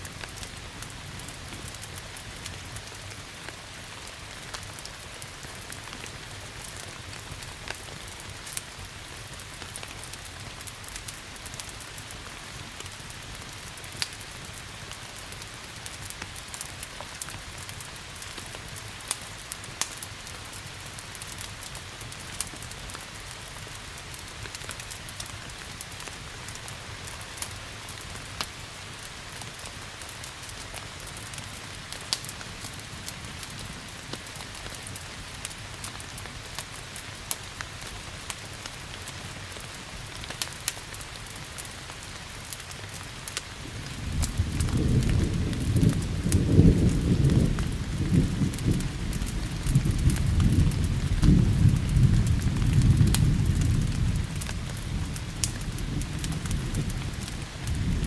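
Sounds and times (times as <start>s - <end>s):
fireplace fire crackling: 0.0s - 58.0s
rain hiss: 0.0s - 58.0s.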